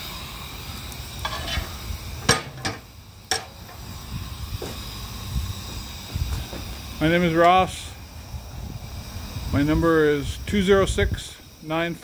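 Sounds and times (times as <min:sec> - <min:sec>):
steam boiler sizzling hiss: 0:00.0 - 0:12.0.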